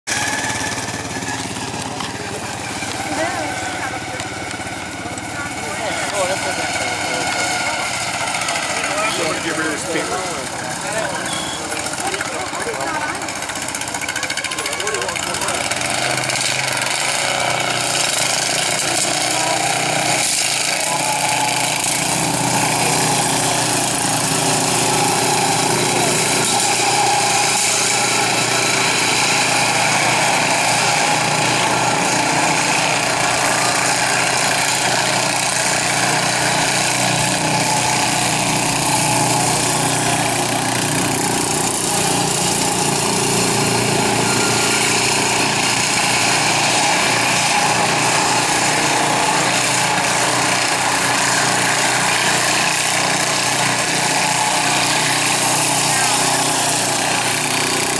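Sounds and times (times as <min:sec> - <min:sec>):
small engines running hard: 0:00.0 - 0:57.9.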